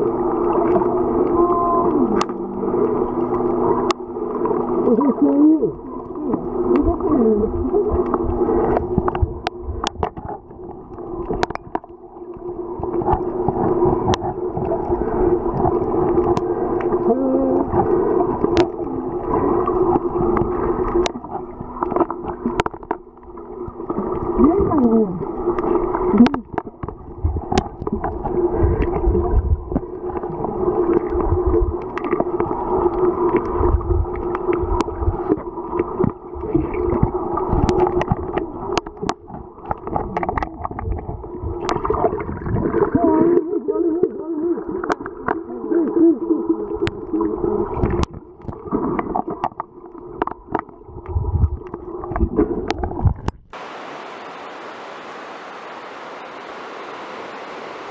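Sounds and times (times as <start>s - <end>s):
steady low hum: 0.0s - 49.0s
water moving underwater: 0.0s - 57.9s.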